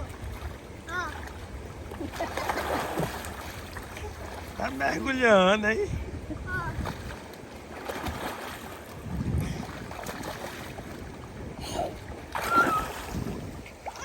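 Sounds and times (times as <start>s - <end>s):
water splashing and lapping: 0.0s - 14.0s
wind buffeting microphone: 0.0s - 14.0s.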